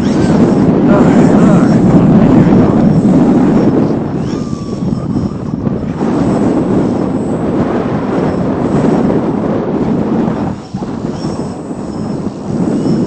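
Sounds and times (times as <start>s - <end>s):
model plane electric motor: 0.0s - 13.0s
wind buffeting microphone: 0.0s - 13.0s.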